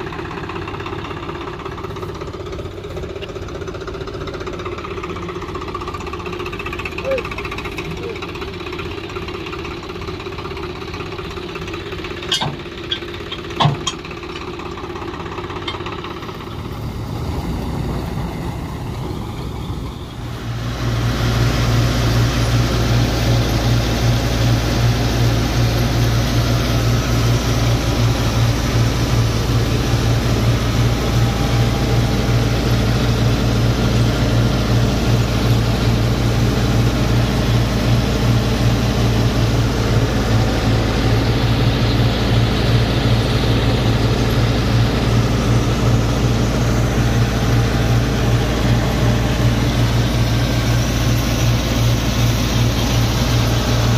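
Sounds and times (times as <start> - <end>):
thresher machinery humming: 0.0 - 53.9
tractor engine running under load: 0.0 - 53.9.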